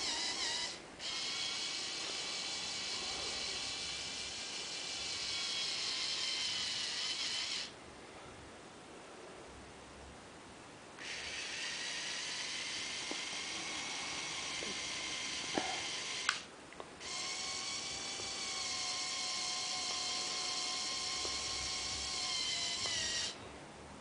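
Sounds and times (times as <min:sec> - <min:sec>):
small electric motors whirring: 0:00.0 - 0:07.8, 0:11.0 - 0:23.4.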